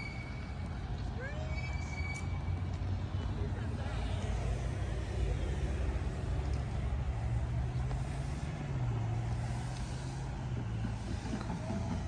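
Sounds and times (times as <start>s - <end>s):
low engine drone: 2.0s - 12.0s.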